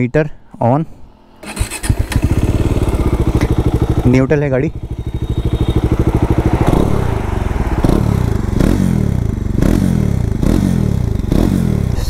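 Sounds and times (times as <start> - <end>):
engine revving: 1.4 - 12.0
motorcycle engine idling: 1.4 - 12.0.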